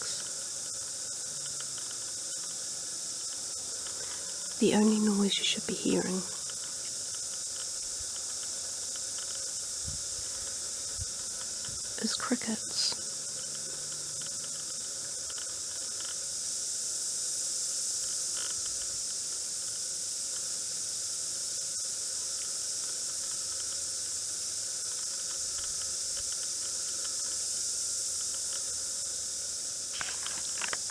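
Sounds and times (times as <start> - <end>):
cicadas singing: 0.0 - 30.9.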